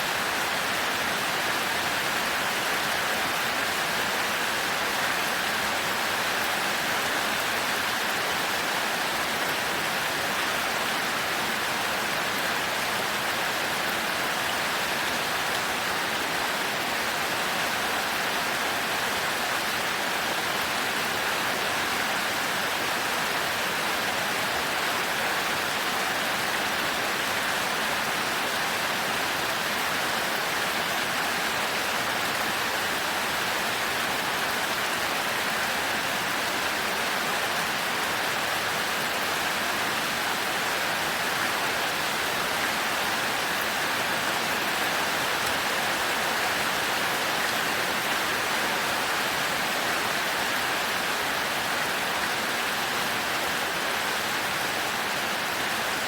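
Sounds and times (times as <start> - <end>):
heavy rain on a thatched roof: 0.0 - 56.0.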